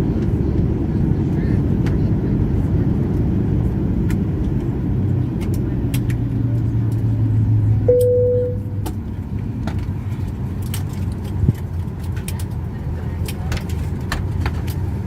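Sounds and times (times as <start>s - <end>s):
low hum of idling jet engines: 0.0s - 15.0s.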